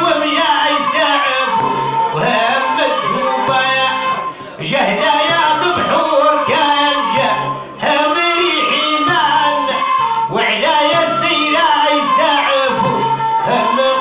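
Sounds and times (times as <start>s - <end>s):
ornamented folk melody: 0.0s - 14.0s.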